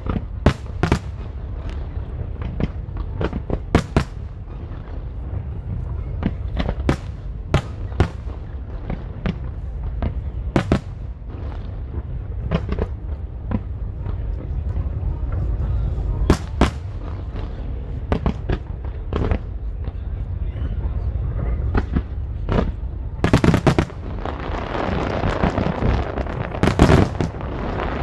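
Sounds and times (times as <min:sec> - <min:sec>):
continuous low rumble: 0:00.0 - 0:28.0
fireworks cracks and bangs: 0:00.0 - 0:28.0.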